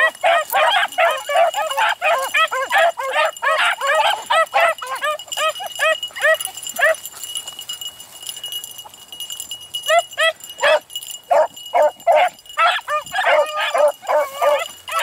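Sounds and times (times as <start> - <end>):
dogs baying: 0.0 - 9.0, 9.8 - 15.0.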